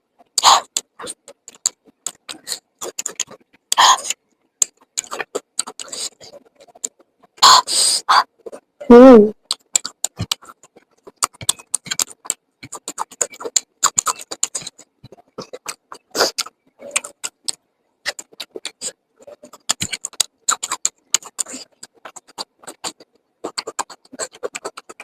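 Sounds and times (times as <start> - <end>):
person chewing: 0.2 - 8.7, 9.4 - 25.0.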